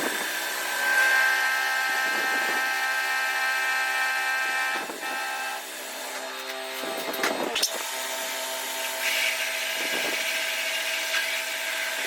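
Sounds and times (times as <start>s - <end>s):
machine tool high whine: 0.0s - 12.0s.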